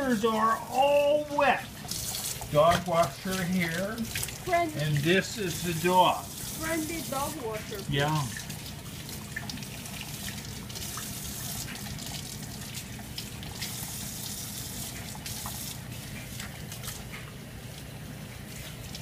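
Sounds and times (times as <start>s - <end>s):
tap water running into sink: 0.0s - 19.0s
water splashing: 0.0s - 19.0s.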